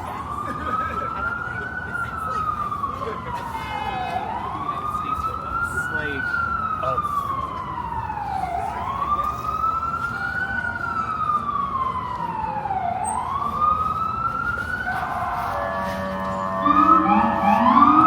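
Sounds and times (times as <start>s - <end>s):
emergency siren wailing: 0.0s - 18.0s
street traffic rumble: 0.0s - 18.0s.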